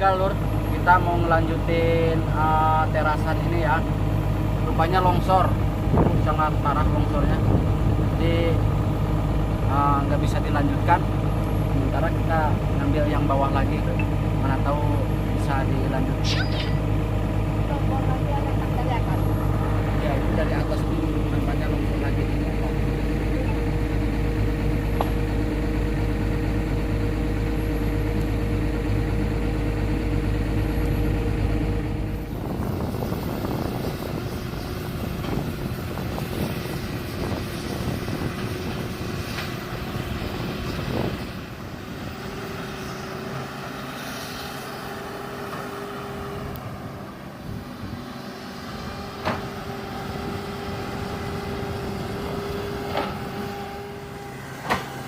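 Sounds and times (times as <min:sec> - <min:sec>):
excavator diesel engine running: 0:00.0 - 0:55.0
steady whine: 0:00.0 - 0:55.0.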